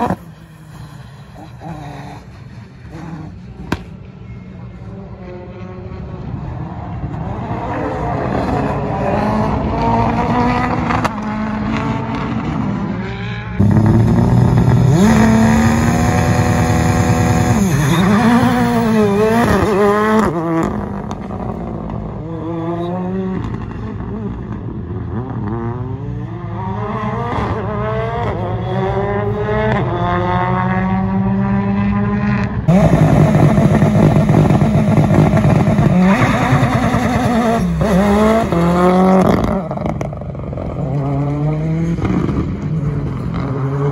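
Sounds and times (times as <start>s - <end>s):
rally car engines accelerating: 0.0s - 43.9s.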